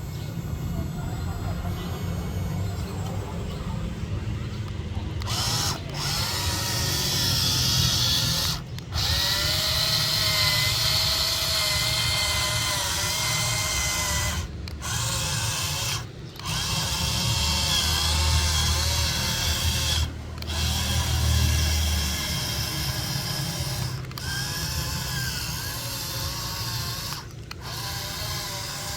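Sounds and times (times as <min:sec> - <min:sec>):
toy electric motors whining: 0:00.0 - 0:28.9.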